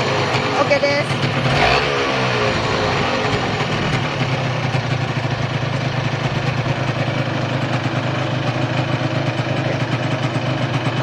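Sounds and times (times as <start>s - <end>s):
two-stroke engine idling: 0.0s - 11.0s.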